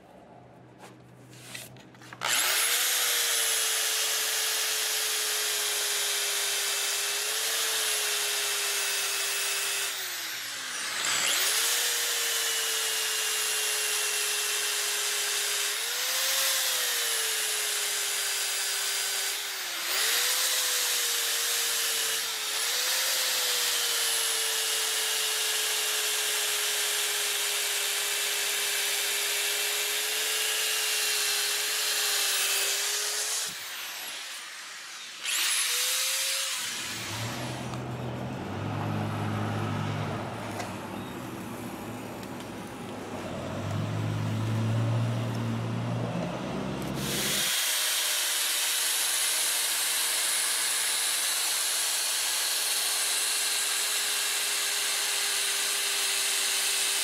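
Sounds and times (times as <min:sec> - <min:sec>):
power sander on wood: 0:01.4 - 0:40.1, 0:43.1 - 0:57.0.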